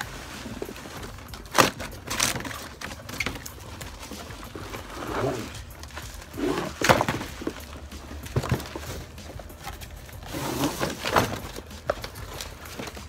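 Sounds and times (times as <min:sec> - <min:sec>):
cardboard rubbing and scraping: 0:00.0 - 0:13.0.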